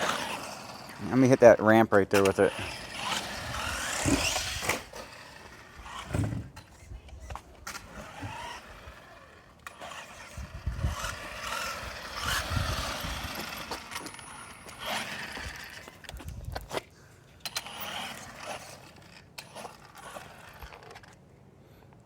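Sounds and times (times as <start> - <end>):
toy car motor whine: 0.0 - 16.3, 17.4 - 21.2
tyres scraping over ground: 0.0 - 21.3.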